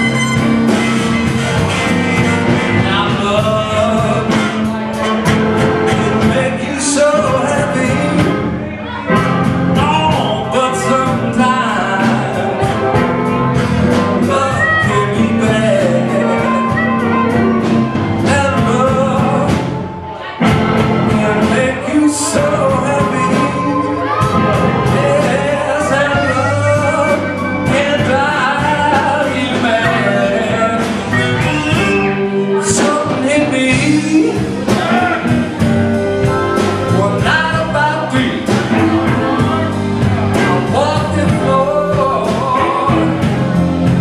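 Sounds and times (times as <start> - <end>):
blues band playing: 0.0 - 44.0
drum kit: 0.0 - 44.0
electric guitar lead melody: 0.0 - 44.0.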